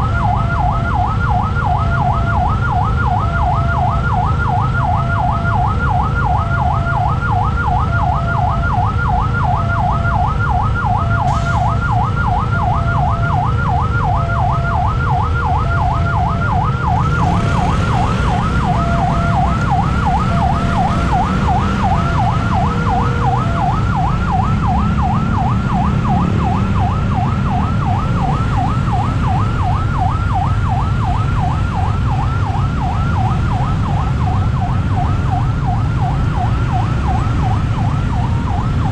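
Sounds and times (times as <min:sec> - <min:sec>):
level crossing warning alarm: 0:00.0 - 0:38.9
low rumble of traffic: 0:00.0 - 0:38.9.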